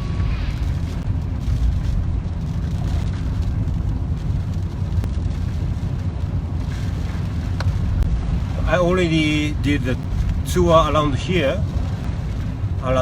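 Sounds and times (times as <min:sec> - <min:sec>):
low rumble of road and wind: 0:00.0 - 0:13.0.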